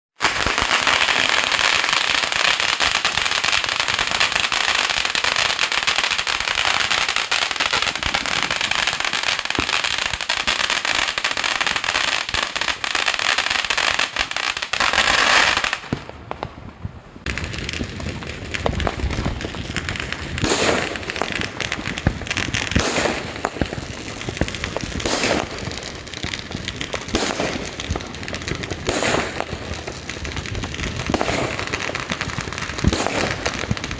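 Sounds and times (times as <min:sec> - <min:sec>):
firecrackers crackling: 0:00.2 - 0:33.9
firework bangs and booms: 0:00.2 - 0:33.9.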